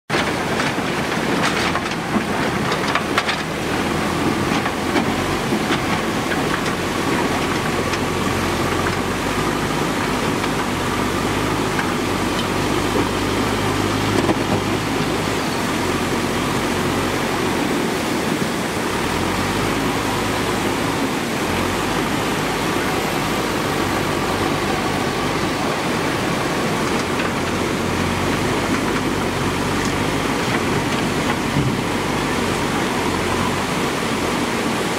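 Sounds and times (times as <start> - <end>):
diesel engine humming: 0.1 - 34.9
floodwater rushing over rocks: 0.1 - 34.9.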